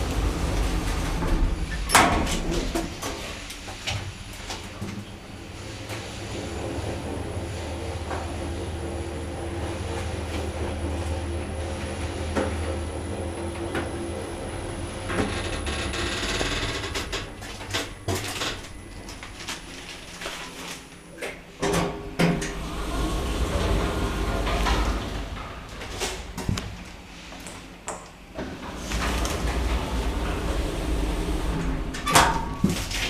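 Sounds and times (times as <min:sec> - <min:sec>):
lift humming in motion: 0:00.0 - 0:03.6, 0:05.3 - 0:20.3, 0:22.3 - 0:27.1, 0:28.4 - 0:33.0.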